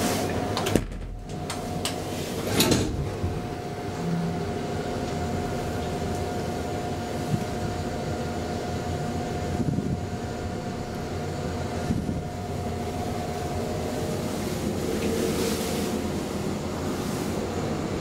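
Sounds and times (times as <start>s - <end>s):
elevator hum and whine: 0.0s - 18.0s.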